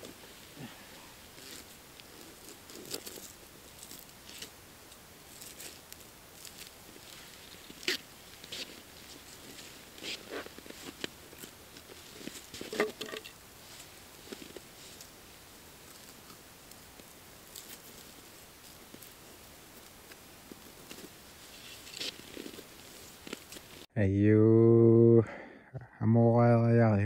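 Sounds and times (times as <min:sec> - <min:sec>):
snow and ice crunching: 0:00.0 - 0:23.9.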